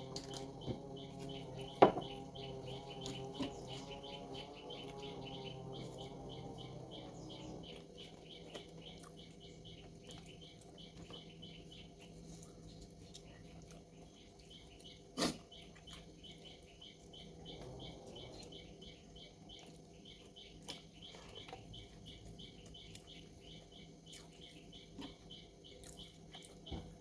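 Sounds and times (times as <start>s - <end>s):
faint high chirping: 0.0s - 27.0s.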